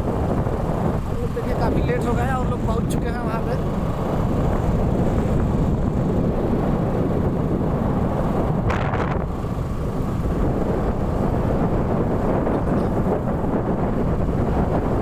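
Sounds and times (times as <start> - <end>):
motorcycle engine: 0.0 - 15.0
road noise: 0.0 - 15.0
wind rumbling on microphone: 0.0 - 15.0.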